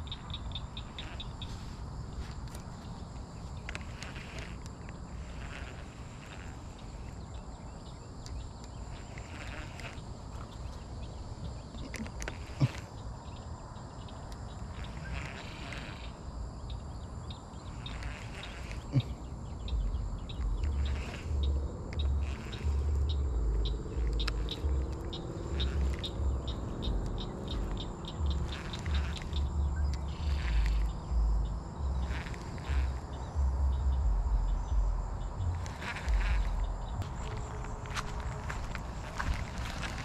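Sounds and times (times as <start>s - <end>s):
birds chirping: 0.0s - 40.0s
wind rumbling on microphone: 0.0s - 40.0s.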